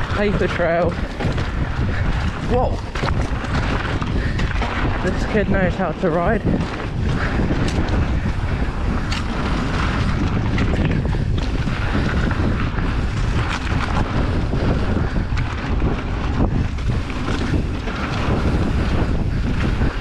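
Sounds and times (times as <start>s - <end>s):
bike knocks and rattles: 0.0s - 20.0s
tyres rolling over dirt: 0.0s - 20.0s
wind buffeting microphone: 0.0s - 20.0s.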